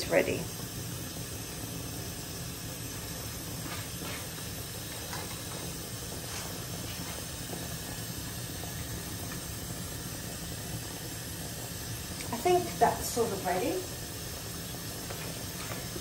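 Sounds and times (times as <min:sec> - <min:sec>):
gas burner hissing: 0:00.0 - 0:16.0.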